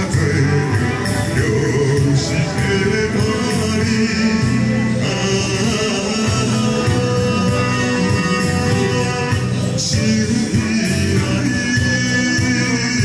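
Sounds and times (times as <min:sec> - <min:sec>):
dance music with singing: 0:00.0 - 0:13.0.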